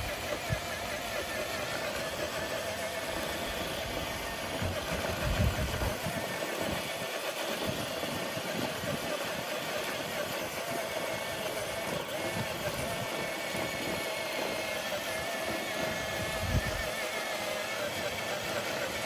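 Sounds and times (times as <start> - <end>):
electric motor and gears whining: 0.0 - 19.0.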